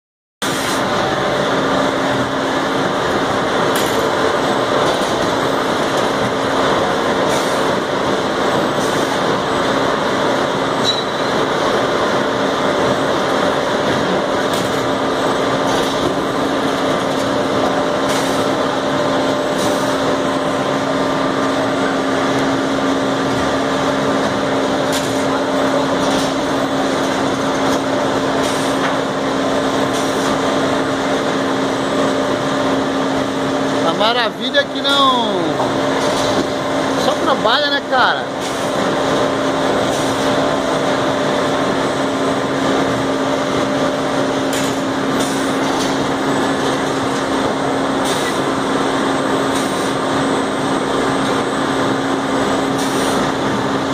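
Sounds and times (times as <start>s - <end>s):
machinery and conveyors humming: 0.4s - 53.9s.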